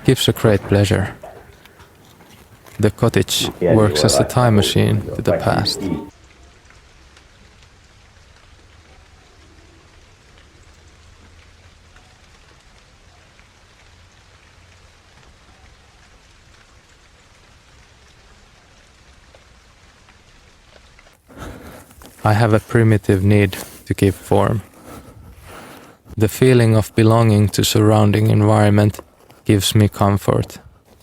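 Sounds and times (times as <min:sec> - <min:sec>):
light rain: 0:00.0 - 0:31.0.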